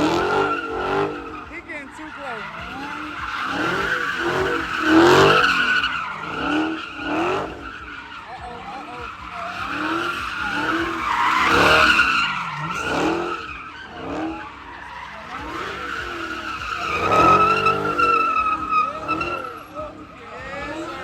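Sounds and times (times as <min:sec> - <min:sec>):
car engine revving: 0:00.0 - 0:21.0
tyres squealing: 0:00.0 - 0:21.0.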